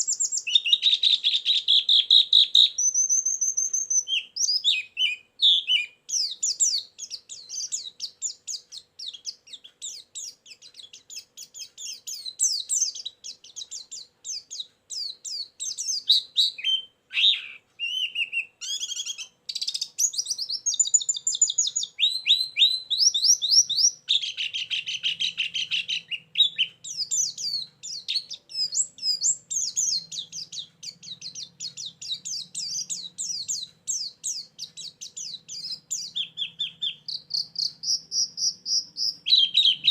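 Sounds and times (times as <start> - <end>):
bird chirping and twittering: 0.0 - 39.9
buzzy bird trill: 0.0 - 39.9.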